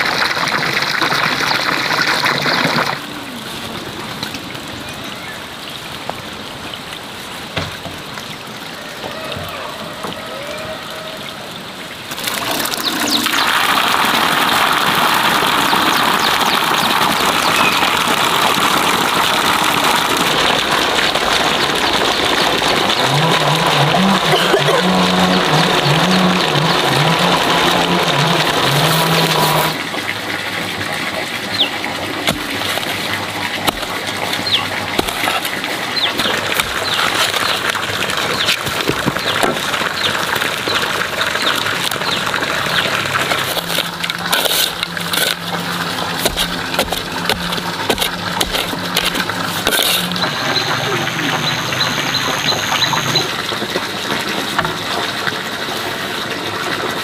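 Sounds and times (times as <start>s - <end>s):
outdoor ambience: 0.0s - 57.0s
running water rushing: 0.0s - 57.0s.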